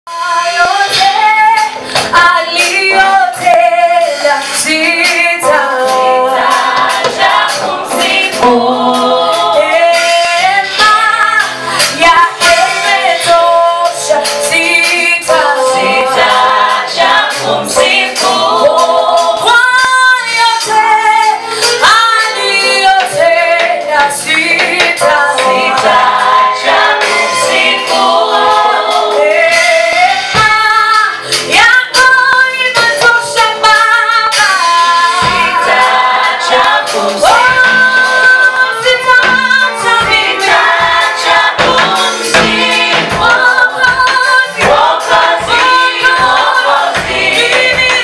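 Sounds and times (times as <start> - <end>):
group singing in harmony: 0.2 - 48.0.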